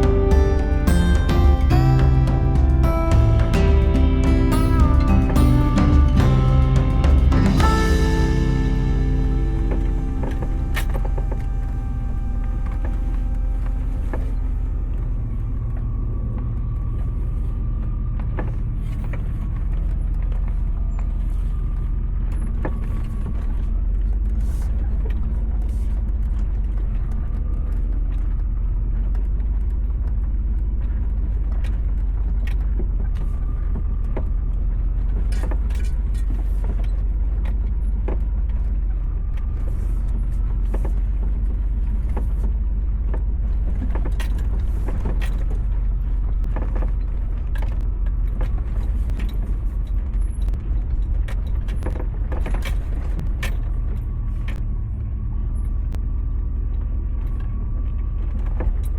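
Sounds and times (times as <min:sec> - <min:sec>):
truck engine and tyres rumbling: 0:00.0 - 0:58.9.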